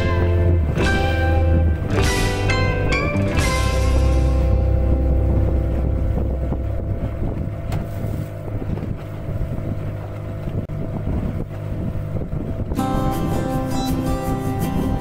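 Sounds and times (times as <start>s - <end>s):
motorboat engine running: 0.0s - 15.0s
water splashing along hull: 0.0s - 15.0s
wind buffeting microphone: 0.0s - 15.0s.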